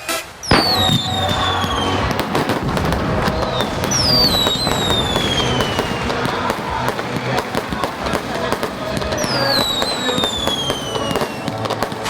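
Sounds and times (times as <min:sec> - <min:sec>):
falling firework whistles: 0:00.0 - 0:12.0
firework burst: 0:00.0 - 0:12.0
fireworks crackling pops: 0:00.0 - 0:12.0.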